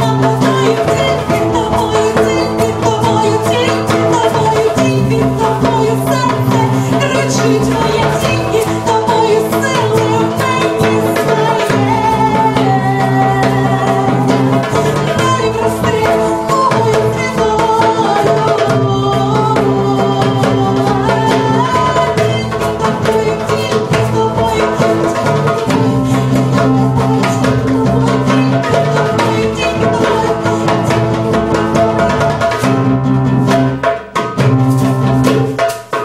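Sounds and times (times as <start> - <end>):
woman singing: 0.0 - 35.5
hand drum beaten: 0.0 - 36.0.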